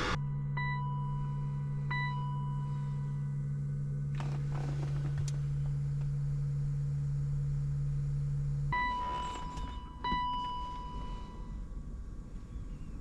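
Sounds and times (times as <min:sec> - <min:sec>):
cooling fan humming: 0:00.0 - 0:13.0.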